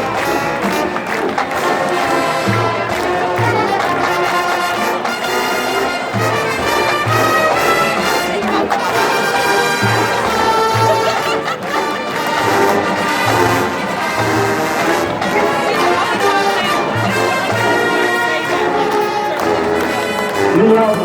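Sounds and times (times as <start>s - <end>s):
brass band sustained chords: 0.0s - 21.0s.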